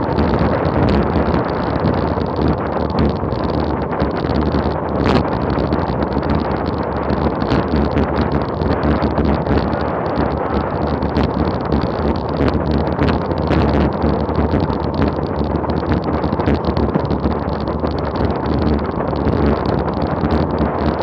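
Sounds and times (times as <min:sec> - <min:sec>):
road and tyre noise: 0:00.0 - 0:21.0
small clicks and rattles: 0:00.0 - 0:21.0
wind rush over microphone: 0:00.0 - 0:21.0.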